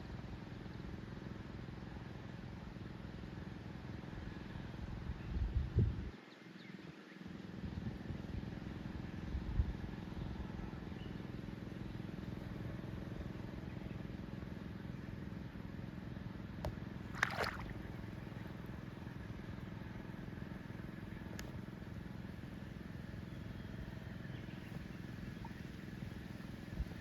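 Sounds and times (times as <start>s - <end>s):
engine running at low speed: 0.0s - 6.2s, 6.9s - 27.0s.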